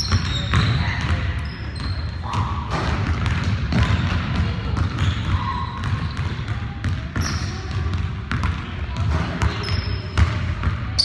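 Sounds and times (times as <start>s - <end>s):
basketball bouncing on hardwood floor: 0.0s - 10.8s.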